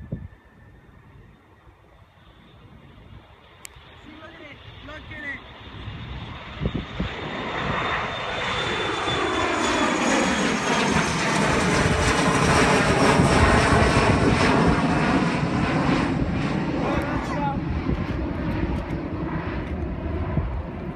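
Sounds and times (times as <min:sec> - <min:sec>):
jet plane climbing overhead: 0:00.0 - 0:20.9.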